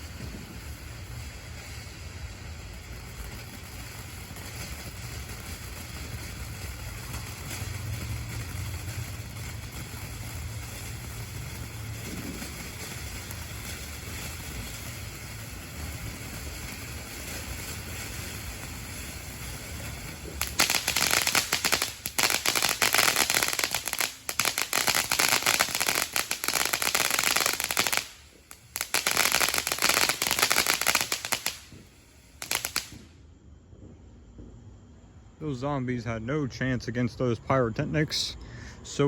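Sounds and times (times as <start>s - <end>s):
firework crackling: 0.0s - 33.5s
low steady firework noise: 0.0s - 39.0s.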